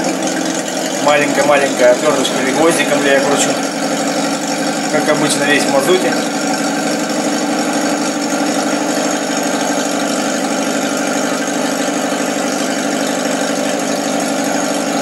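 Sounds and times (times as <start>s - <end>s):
engine idling fast: 0.0s - 15.0s.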